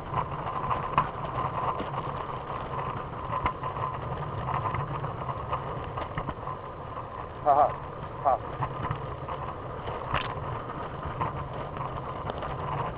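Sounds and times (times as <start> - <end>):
muffled wheels rolling on pavement: 0.0 - 12.9.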